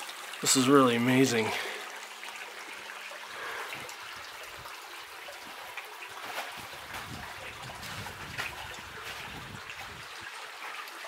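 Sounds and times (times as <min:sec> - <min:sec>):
water babbling over rocks: 0:00.0 - 0:11.0.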